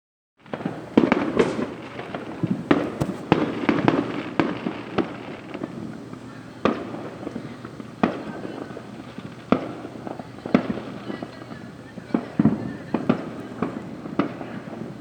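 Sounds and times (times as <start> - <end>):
fireworks popping and crackling: 0.4 - 15.0
loud echoing firework bangs: 0.4 - 15.0.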